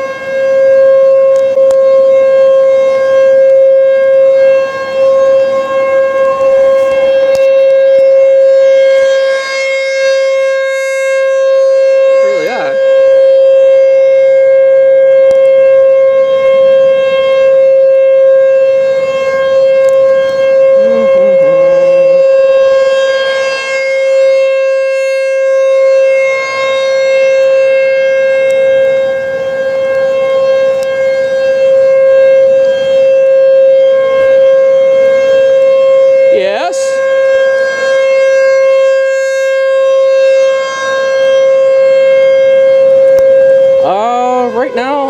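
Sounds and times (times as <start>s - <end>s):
tornado warning siren: 0.0s - 45.0s.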